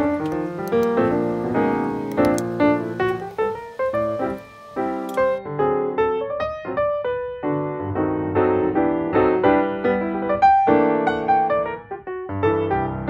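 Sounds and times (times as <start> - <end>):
gentle instrumental music: 0.0 - 13.0.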